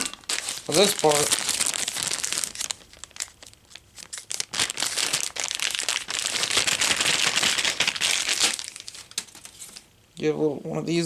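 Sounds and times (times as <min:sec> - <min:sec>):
packaging crinkling and rustling: 0:00.0 - 0:09.9.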